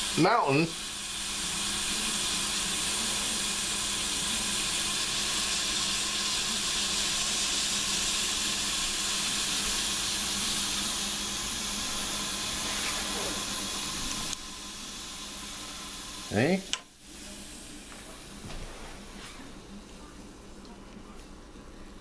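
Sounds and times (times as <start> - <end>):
saucepan hissing on gas stove: 0.0 - 20.6.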